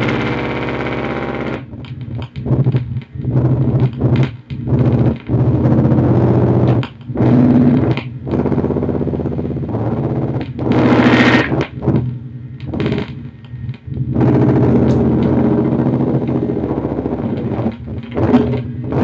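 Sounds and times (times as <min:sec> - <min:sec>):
electronic feedback buzzing drone: 0:00.0 - 0:19.0.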